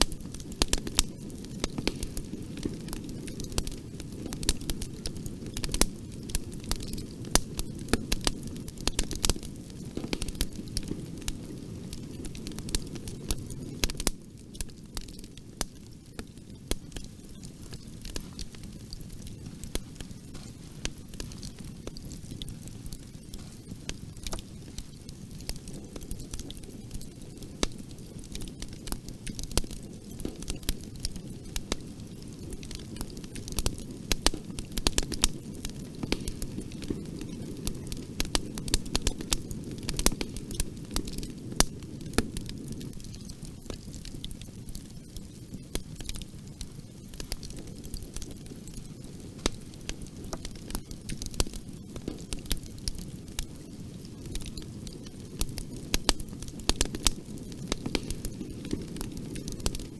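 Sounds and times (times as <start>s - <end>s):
low rumble of flames: 0.0s - 59.9s
wood fire crackling: 0.0s - 59.9s.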